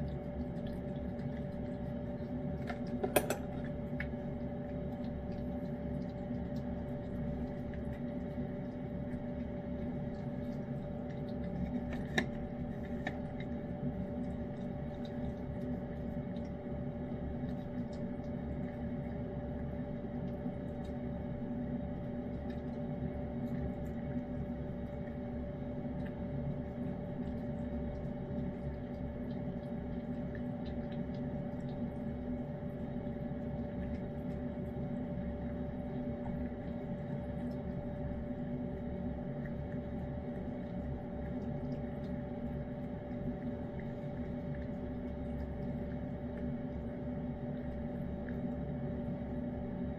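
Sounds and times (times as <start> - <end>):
cat licking and chewing food: 0.0 - 49.9
steady mechanical hum: 0.0 - 49.9.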